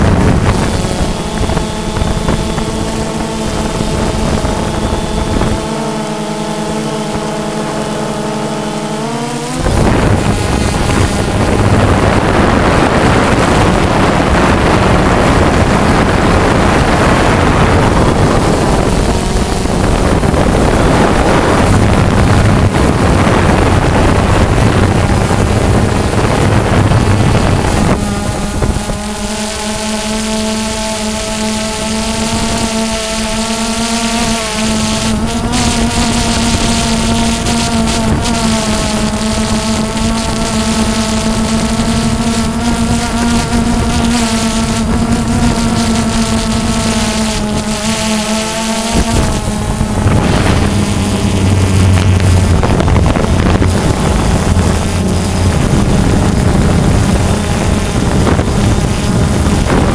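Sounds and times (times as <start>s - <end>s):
drone motors buzzing: 0.0s - 59.9s
wind rushing over microphone: 0.0s - 59.9s.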